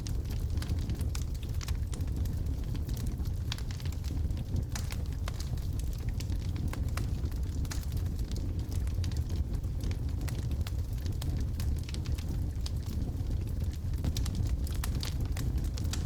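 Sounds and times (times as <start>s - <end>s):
fire flames rumbling: 0.0s - 16.0s
wood crackling and popping: 0.1s - 16.0s.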